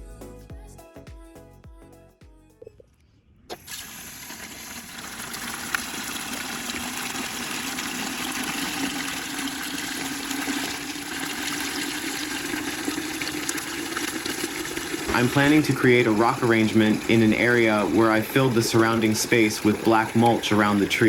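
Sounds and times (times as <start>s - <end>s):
running water: 3.5s - 21.0s.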